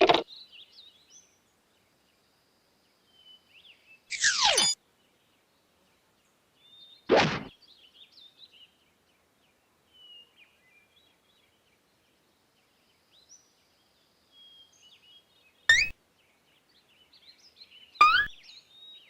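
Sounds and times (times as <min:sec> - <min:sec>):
faint songbird chirping: 0:00.2 - 0:19.0.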